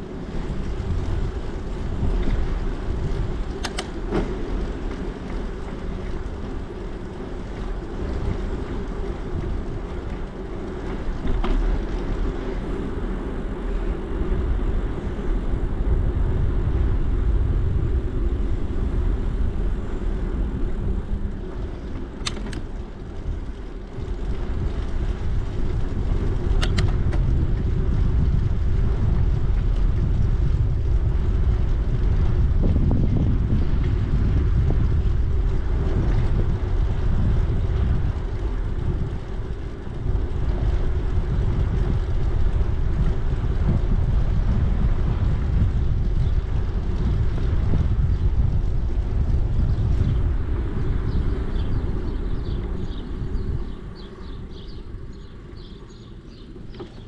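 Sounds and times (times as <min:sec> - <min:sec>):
bicycle tyre rumble: 0:00.0 - 0:57.0
wind buffeting microphone: 0:00.0 - 0:57.0.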